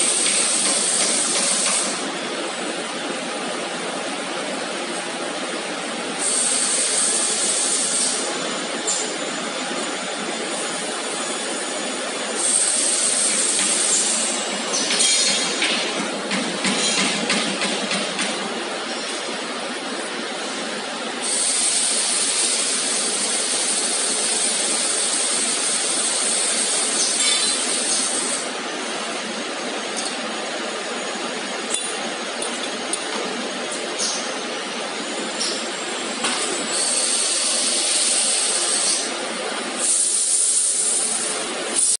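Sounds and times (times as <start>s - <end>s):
high steady gas hiss: 0.0s - 3.0s, 5.4s - 15.8s, 17.9s - 42.0s
welding machine noise: 0.0s - 42.0s.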